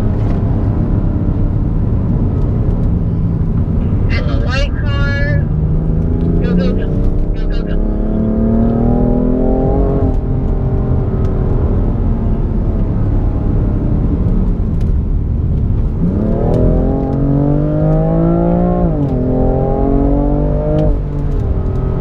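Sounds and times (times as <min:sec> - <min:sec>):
car engine accelerating hard: 0:00.0 - 0:22.0
road and wind rumble: 0:00.0 - 0:22.0.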